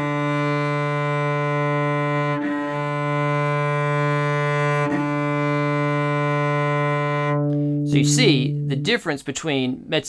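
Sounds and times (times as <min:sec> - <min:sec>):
cello bowing low note: 0:00.0 - 0:09.2.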